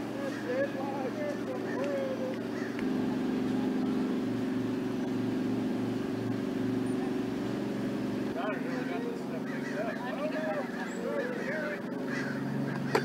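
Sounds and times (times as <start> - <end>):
engine running with slow throb: 0.0 - 13.0.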